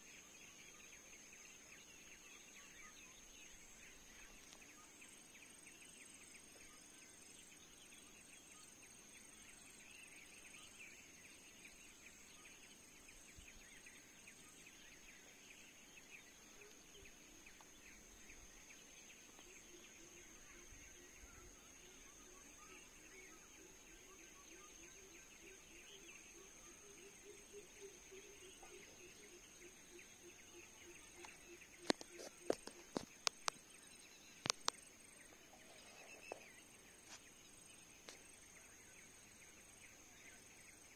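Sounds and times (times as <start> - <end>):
insects whining and chirring: 0.1 - 40.9.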